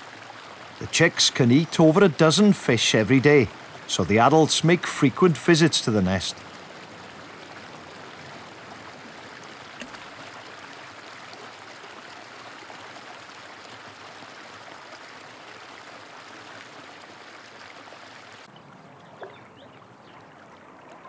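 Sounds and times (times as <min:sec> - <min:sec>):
river water rushing: 0:00.0 - 0:18.6.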